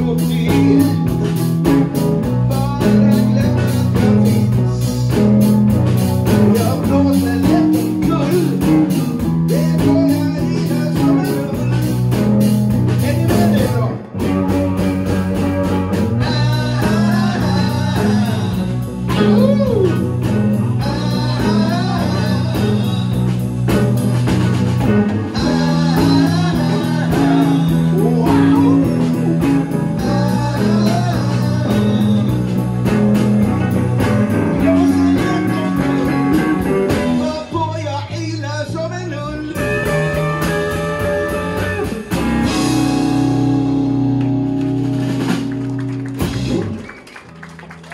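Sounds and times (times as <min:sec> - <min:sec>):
man singing: 0:00.0 - 0:23.9, 0:24.8 - 0:43.2
drums: 0:00.0 - 0:47.9
electric bass: 0:00.0 - 0:47.9
electric guitar: 0:00.0 - 0:47.9.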